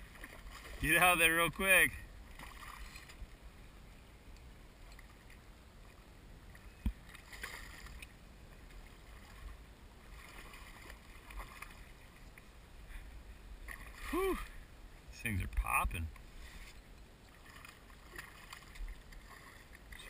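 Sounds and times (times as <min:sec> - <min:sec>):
faint water noise: 0:00.0 - 0:20.0.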